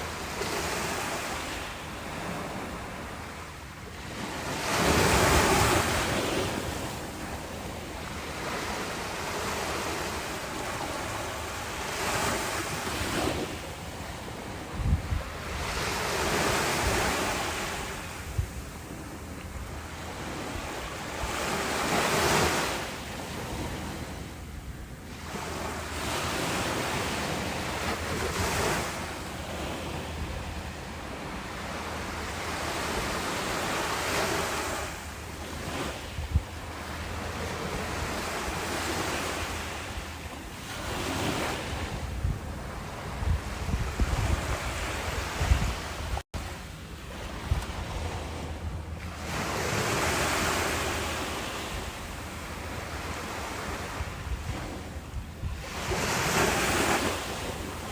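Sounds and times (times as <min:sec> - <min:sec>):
ocean waves breaking: 0:00.0 - 0:57.9
wind buffeting microphone: 0:00.0 - 0:57.9.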